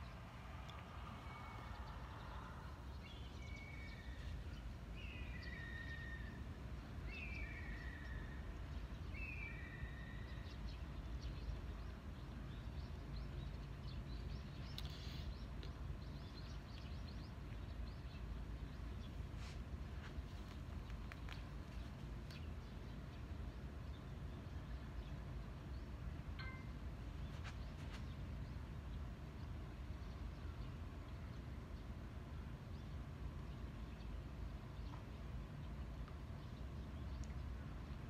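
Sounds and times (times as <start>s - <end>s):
low background rumble: 0.0s - 38.0s.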